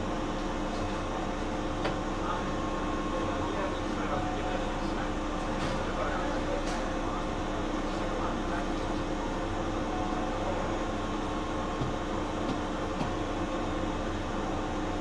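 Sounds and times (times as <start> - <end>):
electric train interior rumble: 0.0 - 15.0.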